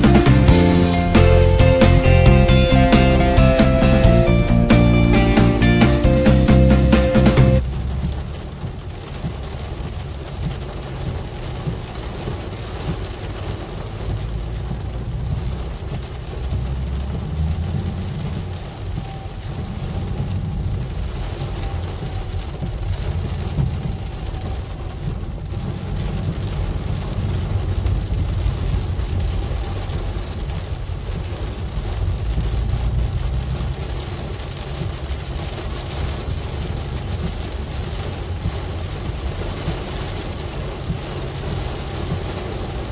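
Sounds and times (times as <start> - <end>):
car driving on wet road: 0.0 - 42.9
heavy rain on car roof: 0.0 - 42.9.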